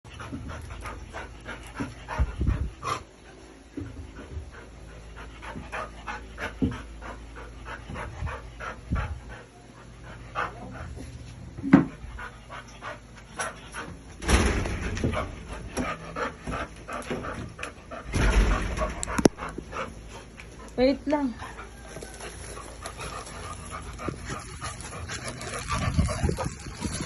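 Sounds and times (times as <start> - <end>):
dog panting: 0.1 - 27.0.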